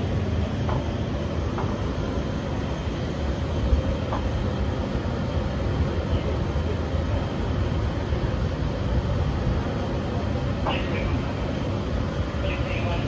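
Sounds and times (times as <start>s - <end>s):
faint steady hum: 0.0s - 13.0s
steady low rumbling: 0.0s - 13.0s.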